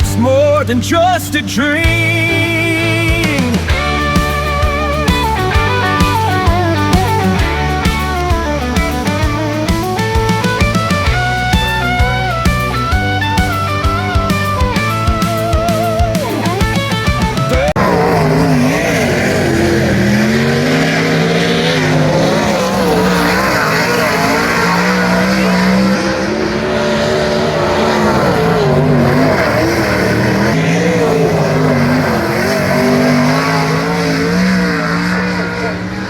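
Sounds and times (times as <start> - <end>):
racing car engines revving: 0.0 - 36.0.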